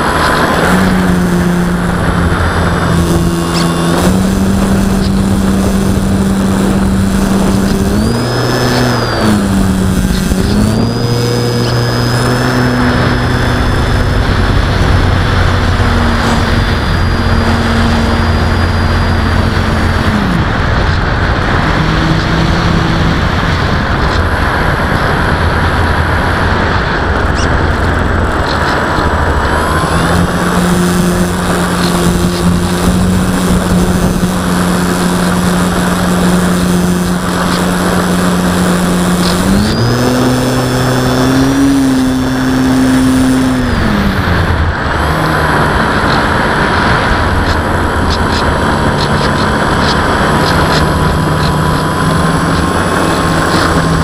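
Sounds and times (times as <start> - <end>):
model airplane electric motor: 0.0 - 54.0
wind rushing: 0.0 - 54.0.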